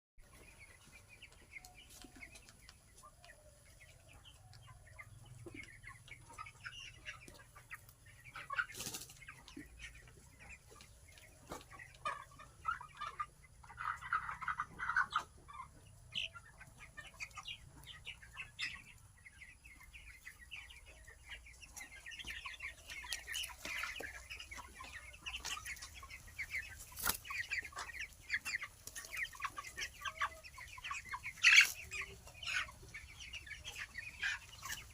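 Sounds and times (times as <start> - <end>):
chicks peeping: 0.2 - 34.9.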